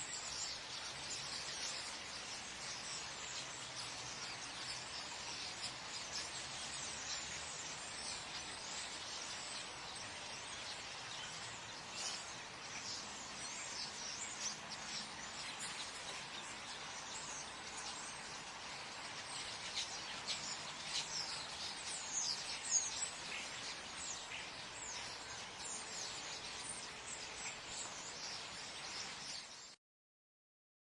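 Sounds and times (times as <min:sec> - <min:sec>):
birds chirping: 0:00.0 - 0:29.8
steady background hiss: 0:00.0 - 0:29.8.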